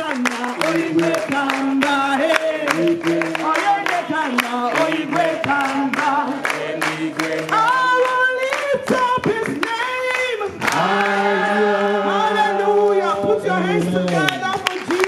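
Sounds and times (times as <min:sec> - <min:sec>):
group singing unaccompanied: 0:00.0 - 0:14.0
rhythmic hand-clapping: 0:00.0 - 0:15.0.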